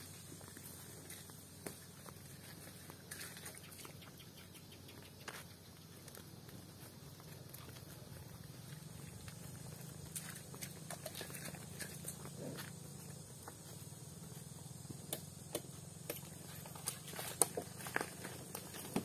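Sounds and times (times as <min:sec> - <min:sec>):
cattle hooves on asphalt: 0:00.0 - 0:19.0.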